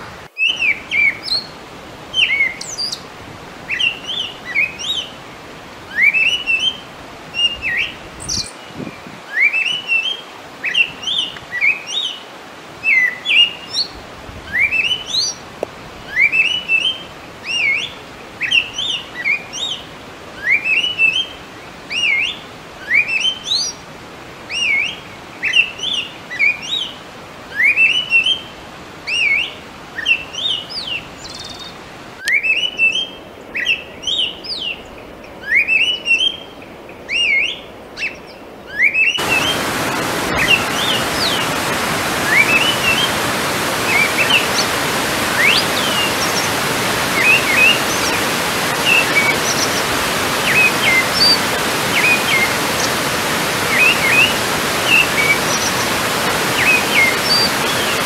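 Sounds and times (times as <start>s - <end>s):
songbirds singing: 0.0s - 23.8s, 24.5s - 58.0s.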